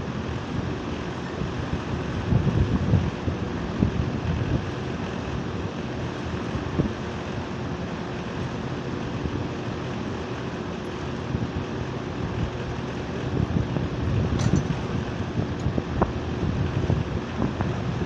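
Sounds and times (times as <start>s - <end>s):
air conditioner humming: 0.0s - 18.0s
fan air noise: 0.0s - 18.0s.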